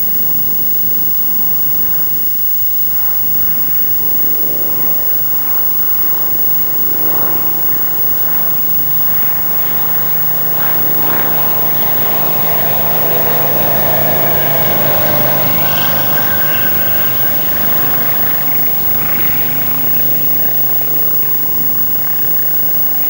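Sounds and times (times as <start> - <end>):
light aircraft flying past: 3.4 - 23.0.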